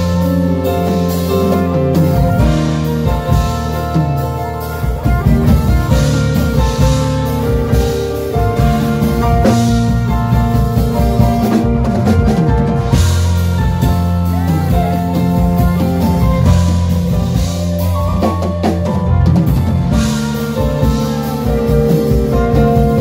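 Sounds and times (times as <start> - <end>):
electric guitar: 0.0 - 23.0
keyboard jazz chords: 0.0 - 23.0.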